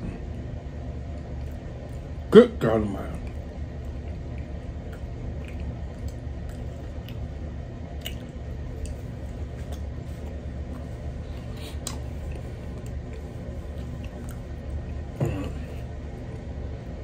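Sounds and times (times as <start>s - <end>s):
steady low hum: 0.0s - 17.0s
person chewing wetly: 1.1s - 2.1s, 3.2s - 16.8s.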